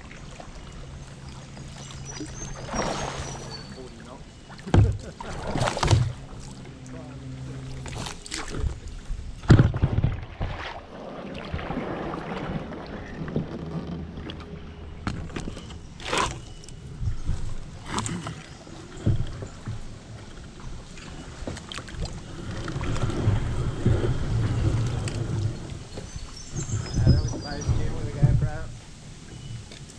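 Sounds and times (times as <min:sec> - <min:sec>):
kayak paddle strokes: 0:00.0 - 0:29.9.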